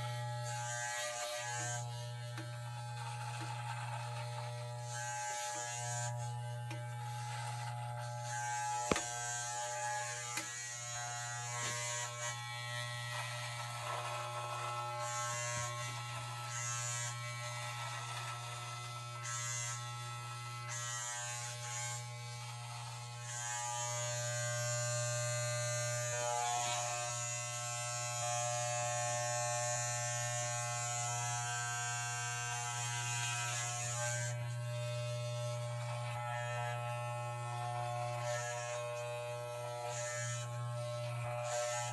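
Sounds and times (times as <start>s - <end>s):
clippers hissing through hair: 0.0s - 41.9s
electric hair clippers buzzing: 0.0s - 41.9s.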